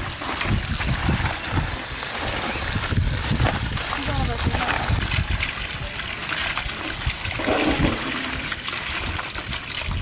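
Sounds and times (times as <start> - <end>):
water running from a hose: 0.0 - 10.0
water splashing on fish: 0.0 - 10.0.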